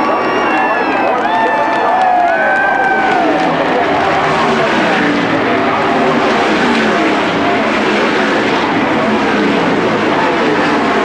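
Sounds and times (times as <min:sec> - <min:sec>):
race car engines passing: 0:00.0 - 0:11.0.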